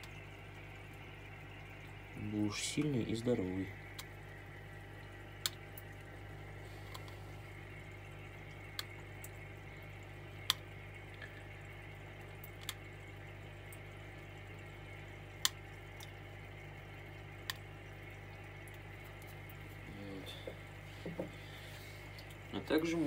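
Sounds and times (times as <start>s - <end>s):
aquarium equipment humming: 0.0s - 23.0s
water dripping: 0.0s - 23.0s.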